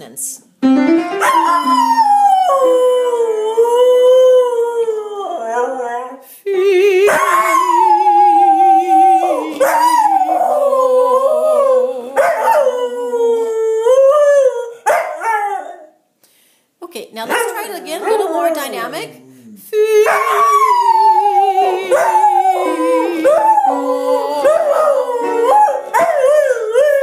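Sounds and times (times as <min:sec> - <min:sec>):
dog howling: 0:01.2 - 0:16.0, 0:19.8 - 0:27.0.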